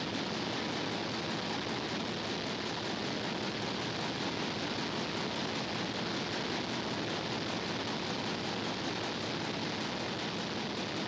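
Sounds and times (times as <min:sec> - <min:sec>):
engine room hissing rush: 0:00.0 - 0:11.0.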